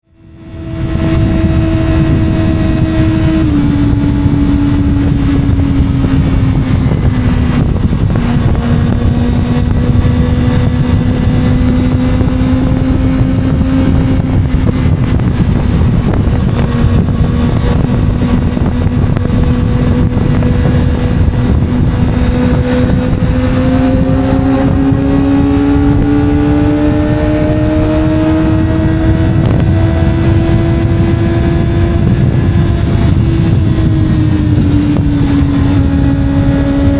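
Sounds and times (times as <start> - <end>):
heavy wind rush: 0.0 - 36.9
motorcycle engine cruising: 0.0 - 36.9.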